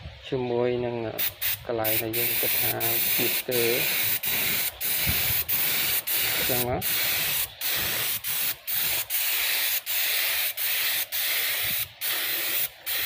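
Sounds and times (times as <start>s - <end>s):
paint spray gun hissing: 1.2s - 13.0s.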